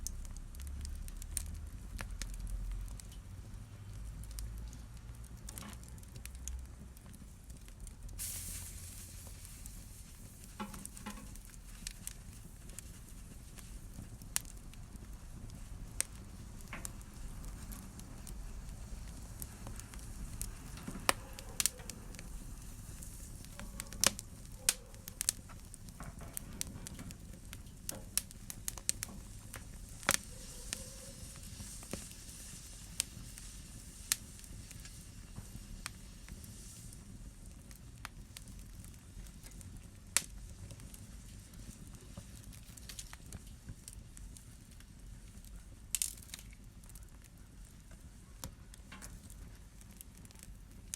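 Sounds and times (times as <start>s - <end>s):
fire crackling in fireplace: 0.0s - 50.9s.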